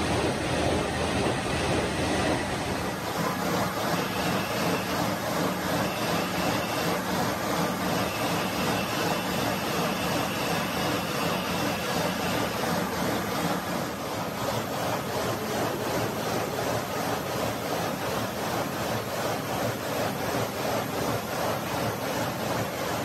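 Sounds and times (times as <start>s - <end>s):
machine noise with hums: 0.0s - 23.0s.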